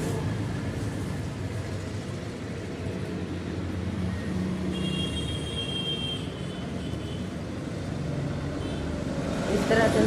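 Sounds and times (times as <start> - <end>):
road traffic engine hum: 0.0 - 10.0.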